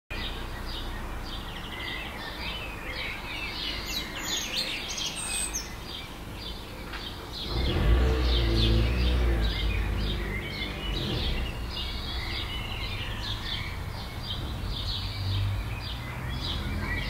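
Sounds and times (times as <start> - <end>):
birds chirping and trilling: 0.1 - 17.0.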